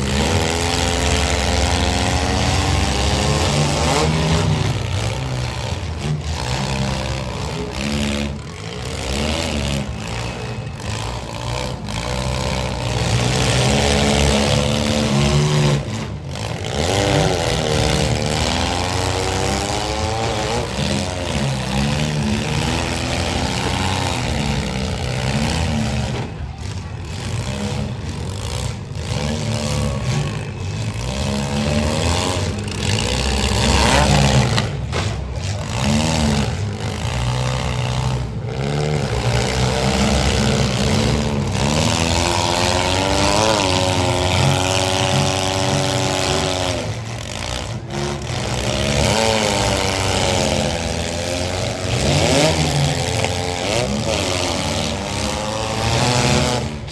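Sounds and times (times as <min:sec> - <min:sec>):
car engines revving hard: 0:00.0 - 0:56.9.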